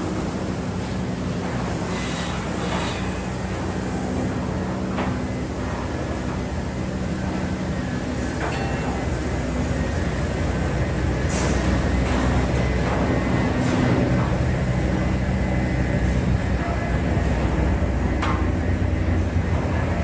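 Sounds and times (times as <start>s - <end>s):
large engine running: 0.0s - 20.0s.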